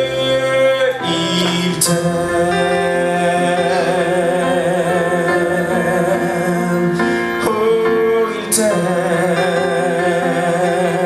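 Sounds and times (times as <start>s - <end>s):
person singing with vibrato: 0.0s - 11.0s
sustained instrumental backing: 0.0s - 11.0s.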